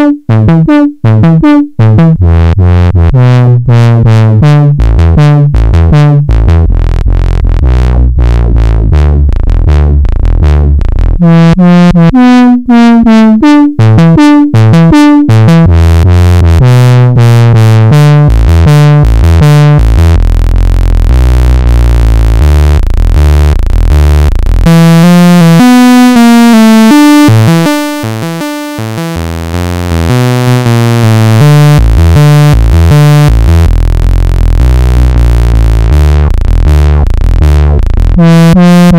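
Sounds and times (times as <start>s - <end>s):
synthesizer bass sequence: 0.0s - 38.9s.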